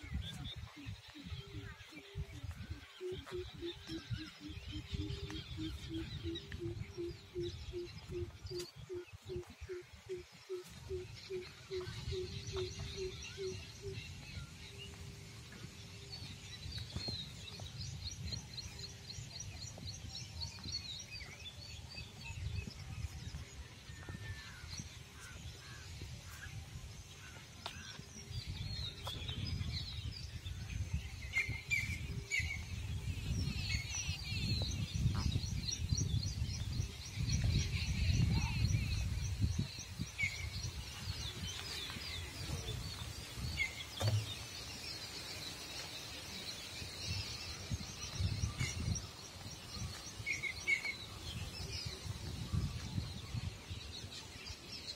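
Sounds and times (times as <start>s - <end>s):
wind rumble on microphone: 0.0s - 45.4s, 46.3s - 54.9s
small birds chirping: 0.0s - 54.9s.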